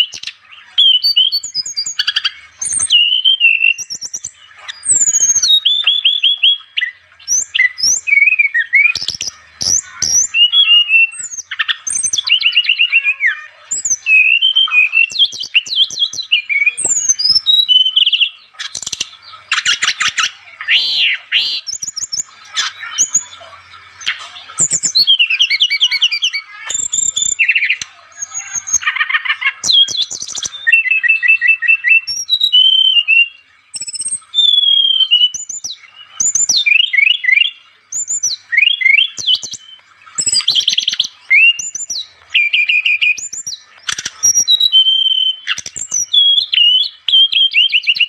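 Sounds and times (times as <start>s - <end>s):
songbird whistling and trilling: 0.0s - 48.0s.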